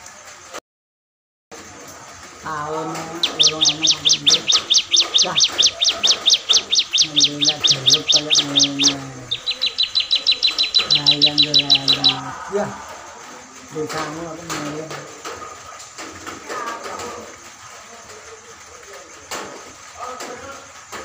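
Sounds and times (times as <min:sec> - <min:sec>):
songbird chirping: 0:01.6 - 0:21.0.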